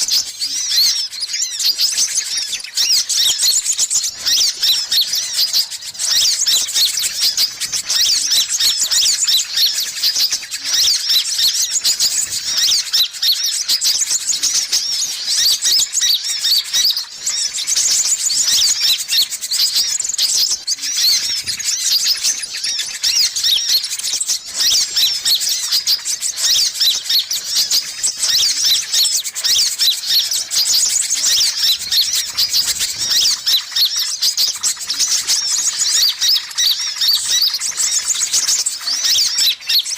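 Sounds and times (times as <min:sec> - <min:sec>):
sunbirds chirping: 0:00.0 - 0:39.9.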